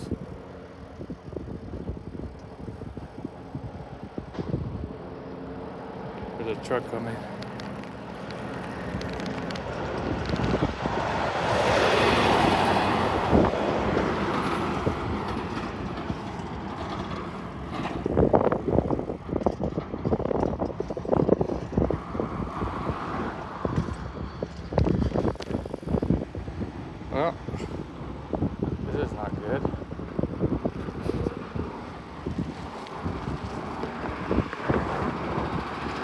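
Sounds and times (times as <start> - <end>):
truck passing by: 0.0 - 36.0.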